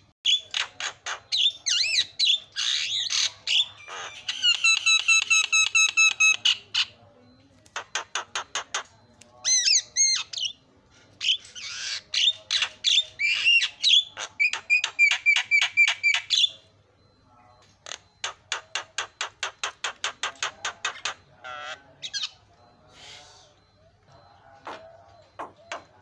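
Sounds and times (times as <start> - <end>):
bird repeated notes: 0.0 - 26.0
myna squawks and chatter: 0.0 - 26.0.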